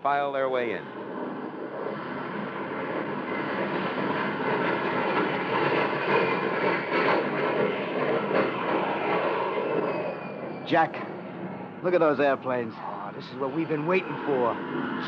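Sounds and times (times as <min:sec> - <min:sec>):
jet airplanes flying over: 0:00.0 - 0:15.0.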